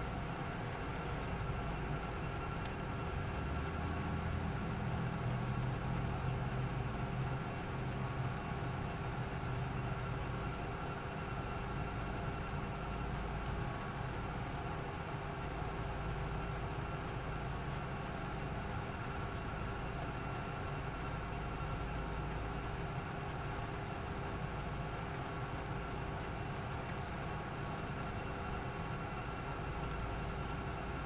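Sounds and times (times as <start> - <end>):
faint steady tones: 0.0 - 31.0
vehicle engine idling: 0.0 - 31.0.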